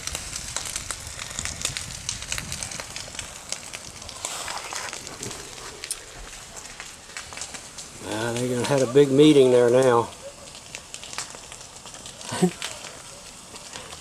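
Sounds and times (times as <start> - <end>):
brush fire crackling: 0.0 - 14.0.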